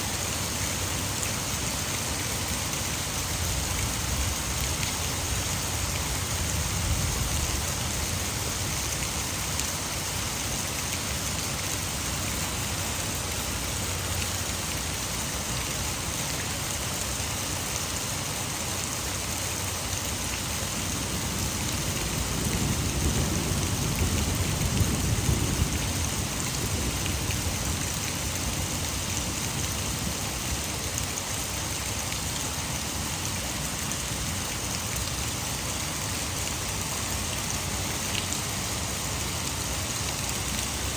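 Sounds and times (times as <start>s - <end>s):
heavy rain falling: 0.0s - 40.9s
water rushing over dam: 0.0s - 40.9s.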